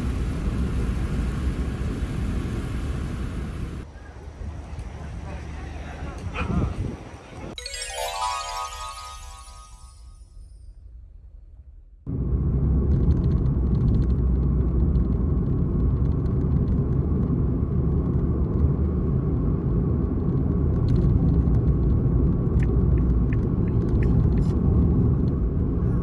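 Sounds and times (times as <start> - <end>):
road and engine rumble in car: 0.0 - 7.4, 12.1 - 26.0.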